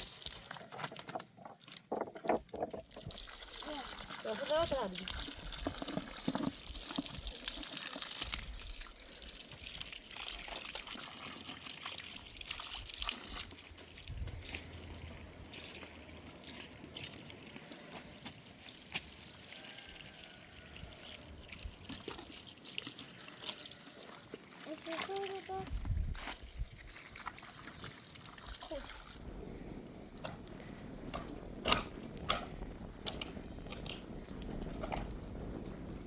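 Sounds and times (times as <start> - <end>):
water trickling: 0.0 - 30.8.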